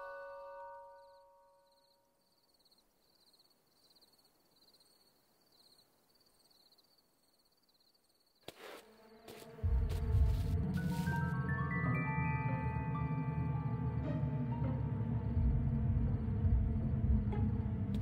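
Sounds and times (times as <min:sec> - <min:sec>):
cricket chirping: 0:00.0 - 0:10.5, 0:12.0 - 0:18.0.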